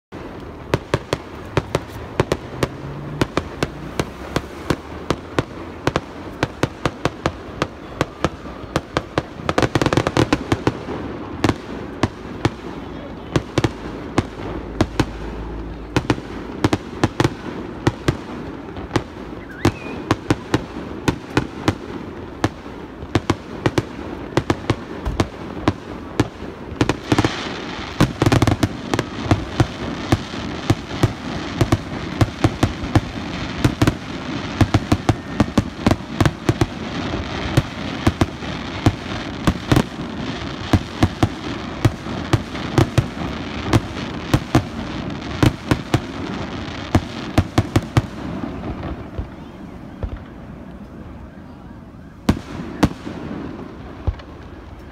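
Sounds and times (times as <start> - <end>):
fireworks crackle: 0.1 - 51.6, 52.2 - 54.9
fireworks bangs: 0.1 - 54.9.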